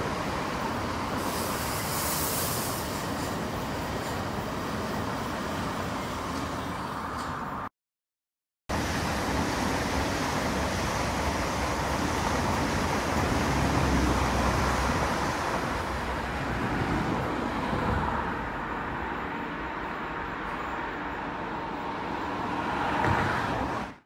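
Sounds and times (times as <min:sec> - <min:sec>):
train wheel and rail noise: 0:00.0 - 0:07.7, 0:08.7 - 0:24.0.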